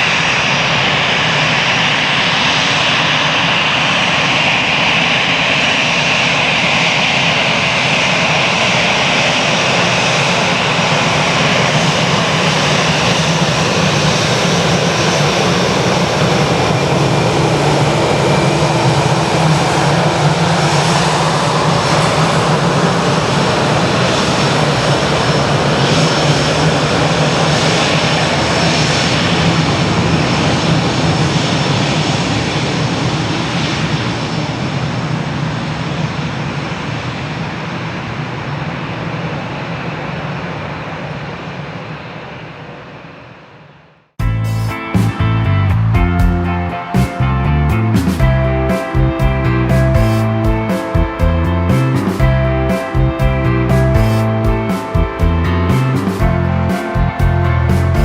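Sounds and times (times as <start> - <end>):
high engine whine: 0.0 - 58.0
jet engines running: 0.0 - 58.0.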